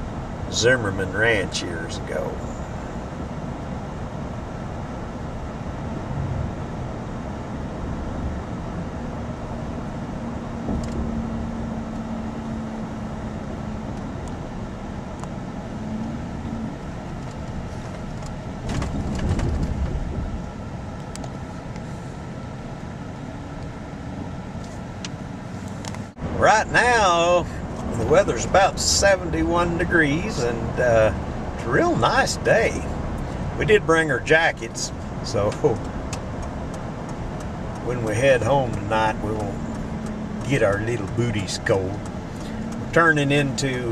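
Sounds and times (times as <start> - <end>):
car engine and tyre noise: 0.0 - 43.9.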